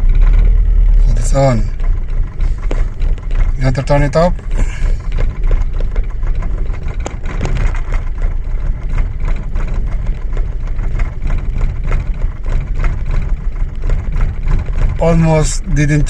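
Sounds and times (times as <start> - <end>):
car engine idling with misfire: 0.0 - 16.0
fast uneven engine ticking: 0.0 - 16.0.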